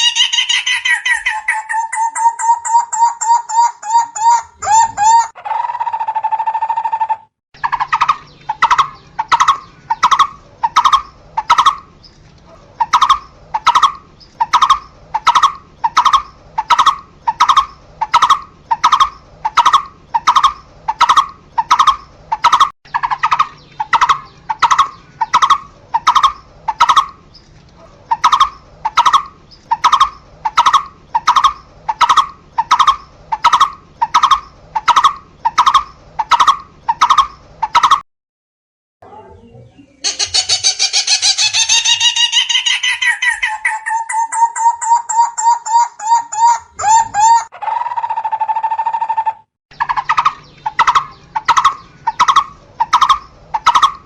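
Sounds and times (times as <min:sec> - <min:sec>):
barbet calling: 0:00.0 - 0:11.9, 0:12.8 - 0:27.3, 0:28.1 - 0:38.0, 0:39.2 - 0:54.0.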